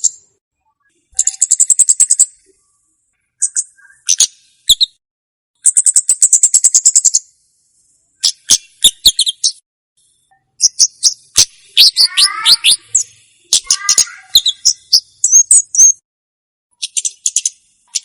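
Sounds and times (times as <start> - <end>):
bird chirping and trilling: 0.0 - 5.0, 5.6 - 7.4, 8.2 - 9.6, 10.2 - 16.0, 16.7 - 18.0.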